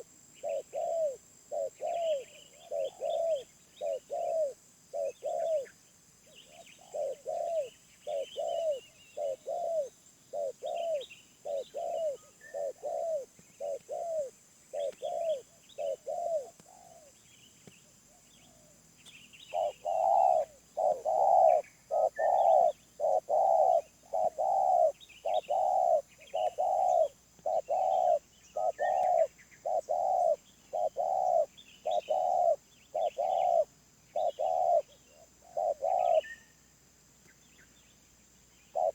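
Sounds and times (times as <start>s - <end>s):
dove cooing: 0.0s - 17.2s, 19.5s - 36.5s
small birds chirping faintly: 0.0s - 38.9s.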